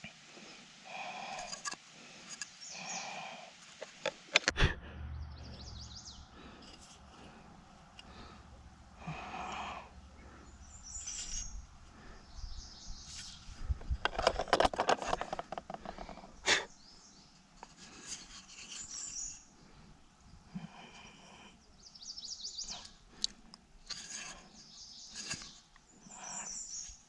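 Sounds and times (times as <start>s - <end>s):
birds chirping: 2.4s - 14.3s, 15.2s - 18.0s, 18.6s - 27.0s.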